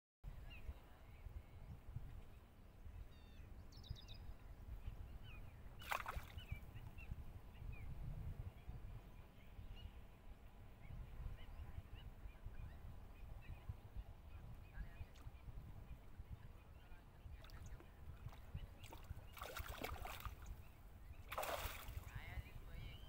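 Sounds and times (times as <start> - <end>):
small birds chirping: 0.4 - 7.9, 10.8 - 23.0.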